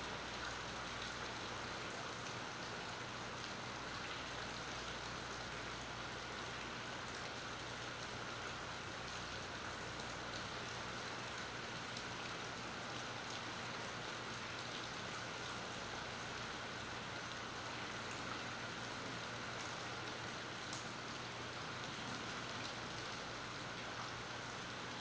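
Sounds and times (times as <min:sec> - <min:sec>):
raindrops ticking close by: 0:00.0 - 0:25.0
steady rain falling: 0:00.0 - 0:25.0.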